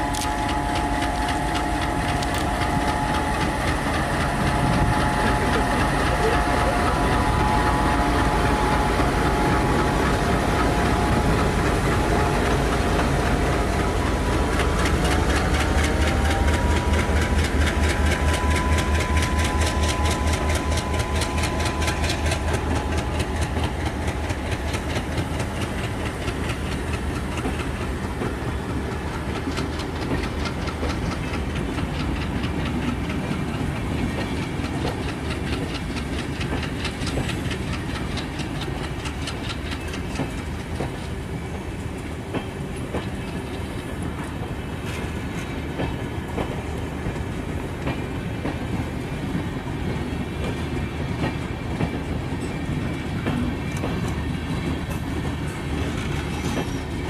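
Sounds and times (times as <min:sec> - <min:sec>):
locomotive rumble: 0:00.0 - 0:57.0
train wheels clacking: 0:00.0 - 0:57.0.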